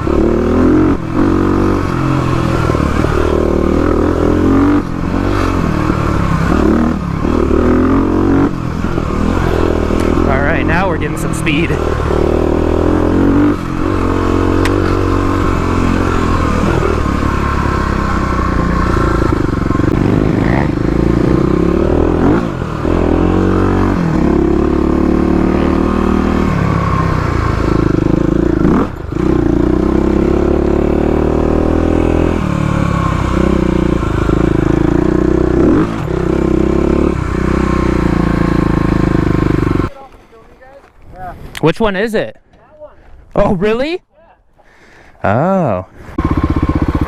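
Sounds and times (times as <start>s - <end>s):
dirt bike engine revving: 0.0s - 39.9s, 45.6s - 47.0s.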